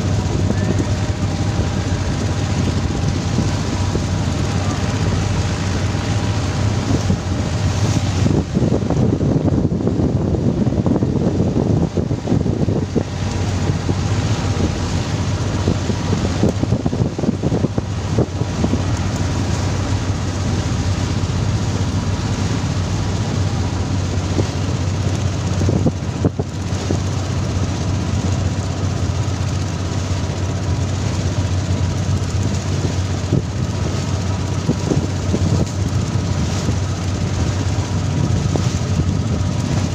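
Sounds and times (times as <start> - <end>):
boat engine running: 0.0 - 39.9
water rushing past hull: 0.0 - 39.9
wind on microphone: 0.0 - 39.9.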